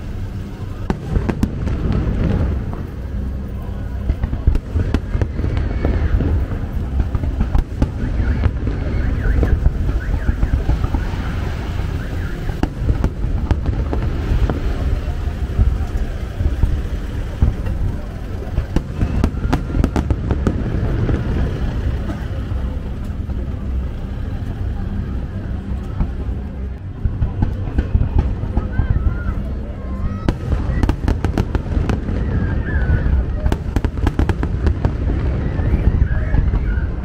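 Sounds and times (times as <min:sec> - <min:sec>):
firework shells bursting and crackling: 0:00.0 - 0:37.0
low rumble of booms: 0:00.0 - 0:37.0.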